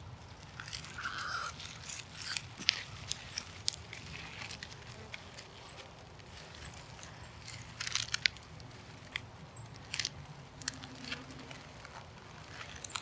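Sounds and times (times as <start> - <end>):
dry leaves crunching: 0.0 - 13.0.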